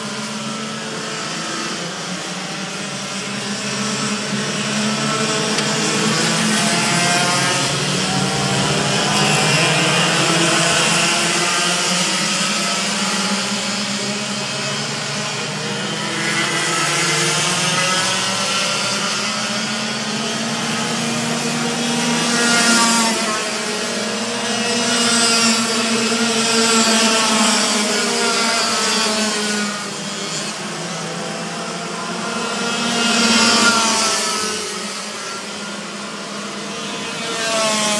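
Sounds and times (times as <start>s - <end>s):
racing kart engines buzzing: 0.0s - 37.9s.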